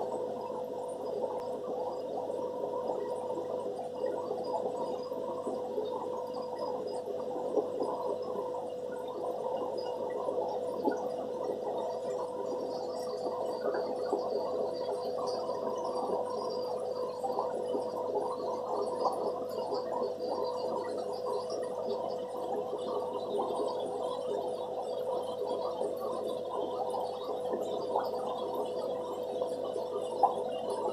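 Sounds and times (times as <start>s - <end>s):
aquarium bubbling: 0.0s - 30.9s.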